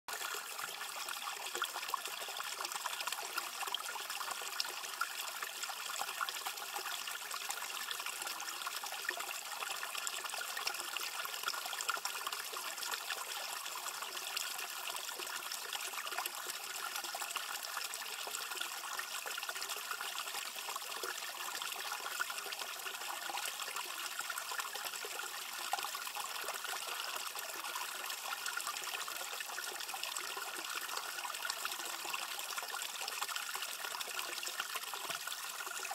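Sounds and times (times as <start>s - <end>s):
stream trickling over rock: 0.1s - 35.9s.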